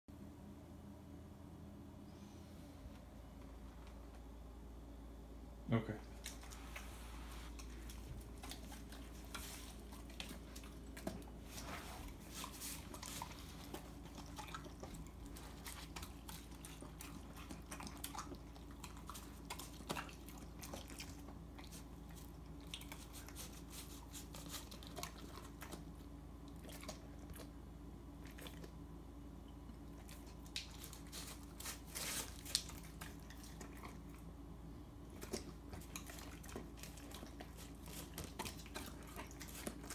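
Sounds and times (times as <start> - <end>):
dog chewing and smacking: 6.0 - 28.9, 29.5 - 39.9.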